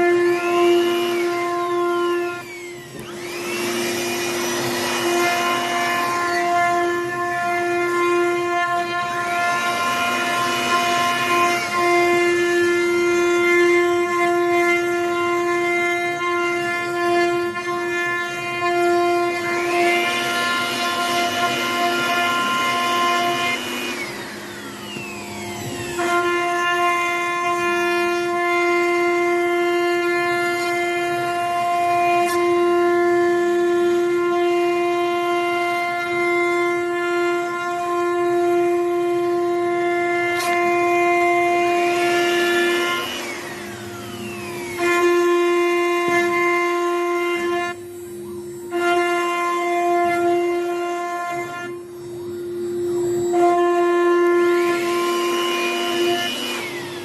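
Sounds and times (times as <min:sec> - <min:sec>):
router spindle whining: 0:00.0 - 0:57.0.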